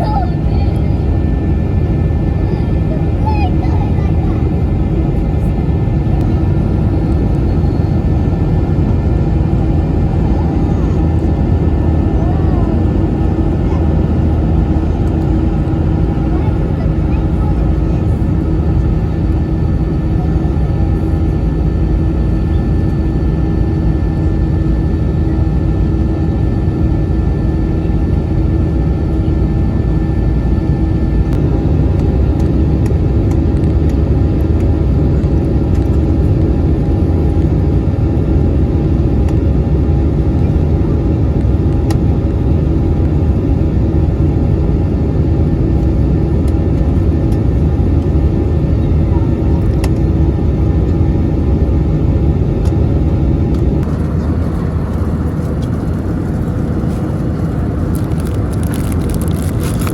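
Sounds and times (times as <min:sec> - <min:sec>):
jet cabin engine rumble: 0:00.0 - 0:59.9.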